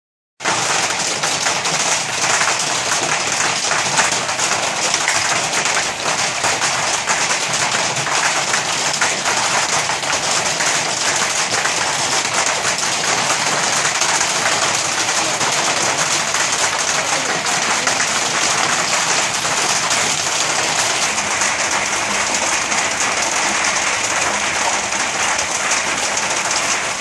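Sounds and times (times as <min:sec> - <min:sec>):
hail clattering on wet paving: 0:00.4 - 0:27.0.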